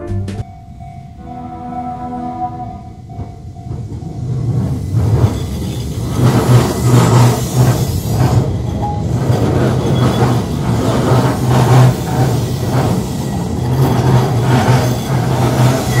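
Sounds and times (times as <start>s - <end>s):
electric train hum: 0.0s - 16.0s
steel wheels rumbling on rails: 0.4s - 16.0s.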